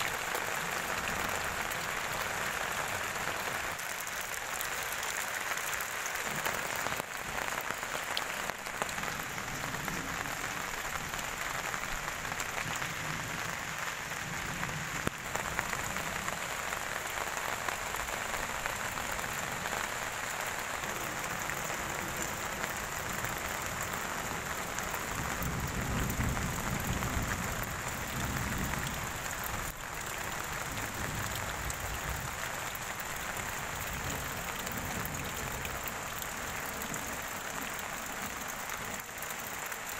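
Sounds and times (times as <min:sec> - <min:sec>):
heavy rain on puddles: 0:00.0 - 0:39.9.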